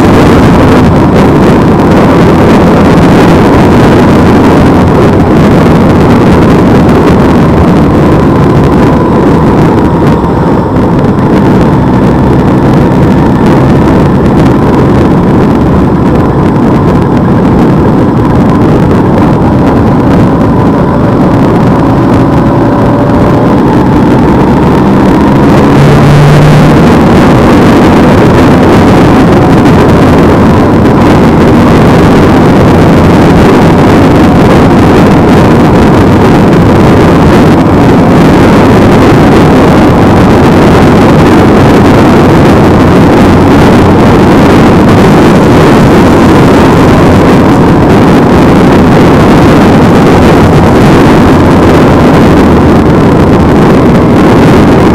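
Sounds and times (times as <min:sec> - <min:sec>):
motorcycle engine: 0:00.0 - 0:54.9
wind rushing: 0:00.0 - 0:54.9.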